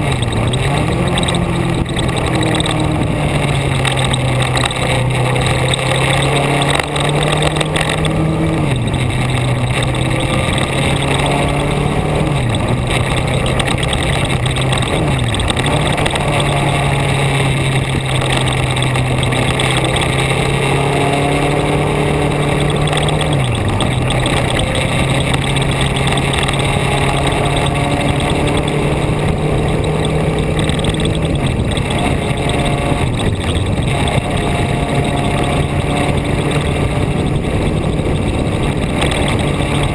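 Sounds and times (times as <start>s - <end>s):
road and wind noise: 0.0s - 39.9s
vehicle engine droning: 0.0s - 39.9s.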